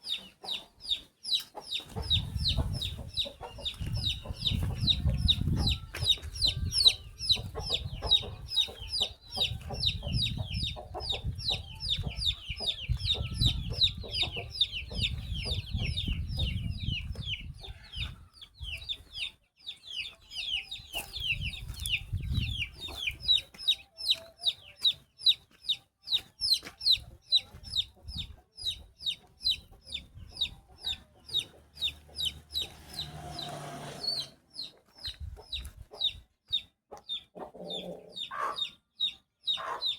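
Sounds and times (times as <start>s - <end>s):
baby chick peeping: 0.0s - 39.9s.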